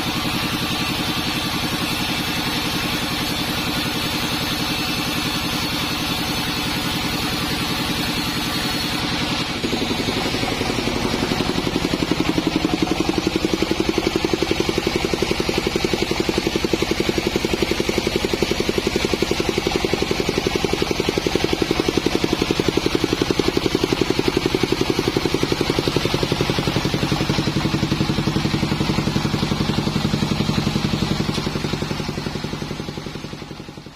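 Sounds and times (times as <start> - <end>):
bandsaw sawmill running: 0.0 - 33.9.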